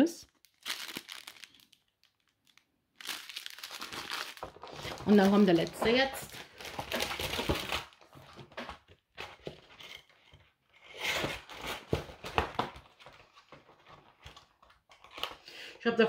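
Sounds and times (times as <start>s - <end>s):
packaging crinkling and tearing: 0.3s - 15.5s.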